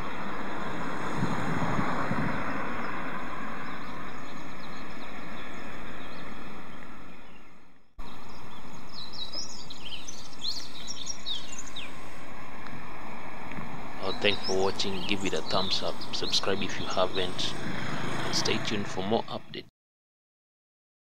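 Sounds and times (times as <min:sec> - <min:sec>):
city street noise: 0:00.0 - 0:07.4, 0:08.0 - 0:19.6
birds chirping: 0:00.0 - 0:12.8, 0:13.5 - 0:19.6.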